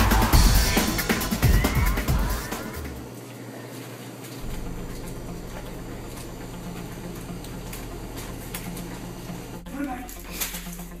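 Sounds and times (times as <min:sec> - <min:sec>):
low electrical hum: 0:00.1 - 0:11.0.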